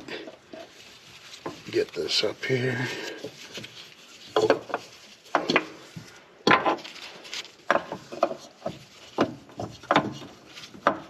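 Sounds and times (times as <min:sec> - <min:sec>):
oil filter knocking and scraping: 0:00.0 - 0:11.0.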